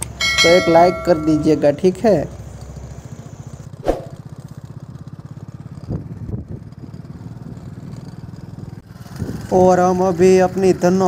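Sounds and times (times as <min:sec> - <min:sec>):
motorcycle engine puttering: 0:00.0 - 0:11.0.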